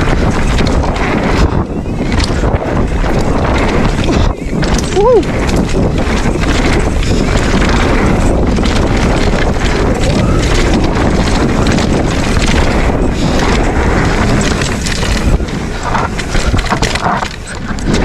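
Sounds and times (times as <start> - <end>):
bike rattles and knocks: 0.0 - 18.0
tyres rushing on dirt: 0.0 - 18.0
wind buffeting microphone: 0.0 - 18.0.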